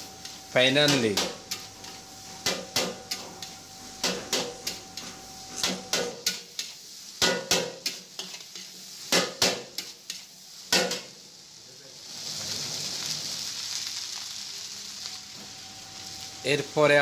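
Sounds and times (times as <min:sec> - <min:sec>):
light sizzle: 0:00.0 - 0:17.0.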